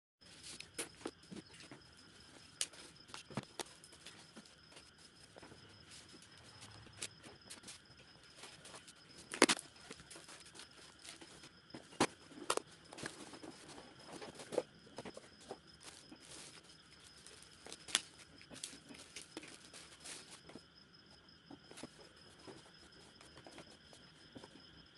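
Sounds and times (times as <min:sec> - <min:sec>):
plastic bag rustling: 0:00.3 - 0:20.6.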